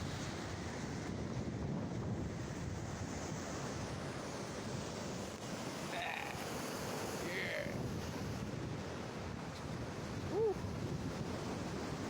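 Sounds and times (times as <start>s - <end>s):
ocean surf washing ashore: 0.0s - 12.0s
wind buffeting microphone: 0.0s - 12.0s.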